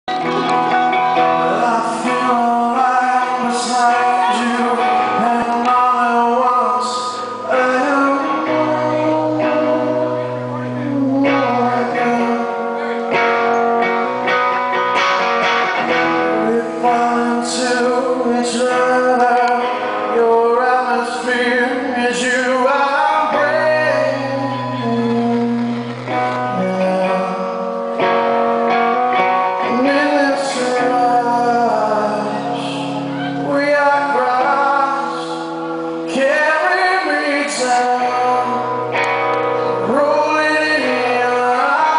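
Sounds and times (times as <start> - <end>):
guitar and band accompaniment: 0.0 - 41.9
man singing: 0.2 - 41.9.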